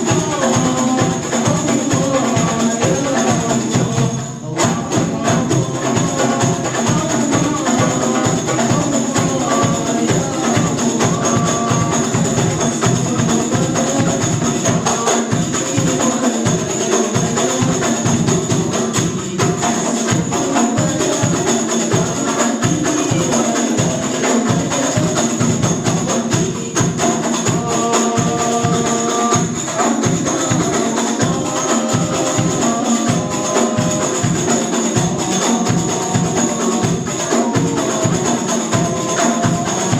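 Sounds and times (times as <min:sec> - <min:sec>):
frame drums: 0:00.0 - 0:39.9
jingling tambourine: 0:00.0 - 0:39.9.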